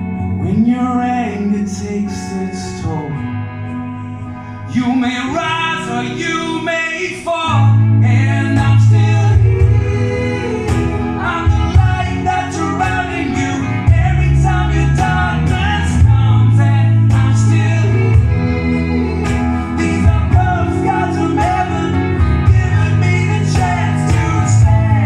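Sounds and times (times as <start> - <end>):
man singing: 0.0 - 3.4, 4.6 - 25.0
live rock band playing: 0.0 - 25.0.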